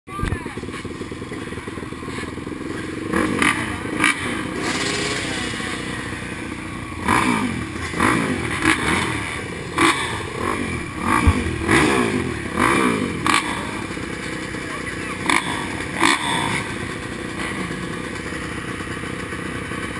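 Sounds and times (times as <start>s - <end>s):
dirt bike engines revving: 0.1s - 19.9s.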